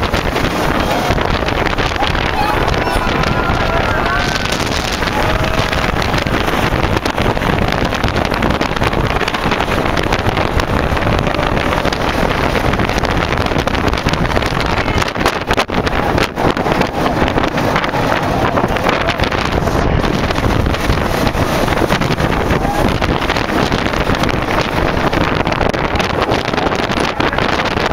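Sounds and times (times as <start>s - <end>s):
roller coaster rumbling on track: 0.0s - 27.9s
wind rushing over microphone: 0.0s - 27.9s.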